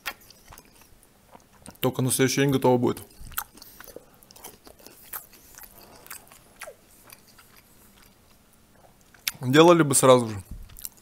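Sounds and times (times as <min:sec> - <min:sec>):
person chewing with open mouth: 0:00.0 - 0:01.8, 0:03.0 - 0:09.4, 0:10.3 - 0:11.0.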